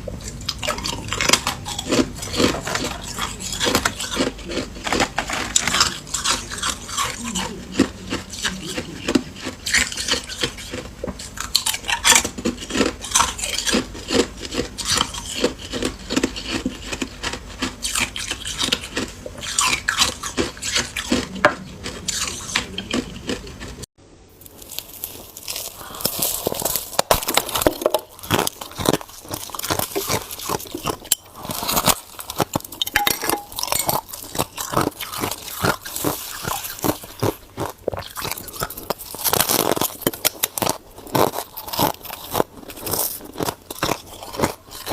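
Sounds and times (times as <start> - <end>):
ice crunching while chewed: 0.2 - 44.9.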